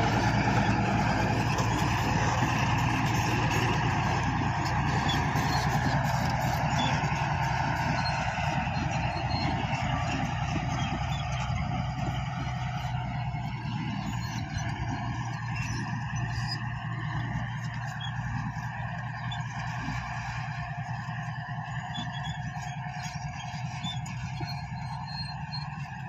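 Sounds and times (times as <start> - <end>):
bulldozer diesel engine under load: 0.0 - 26.0.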